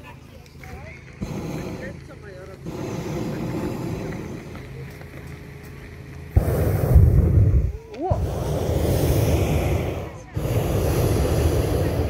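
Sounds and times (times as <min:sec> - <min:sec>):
propane burner blast: 0:00.6 - 0:12.0.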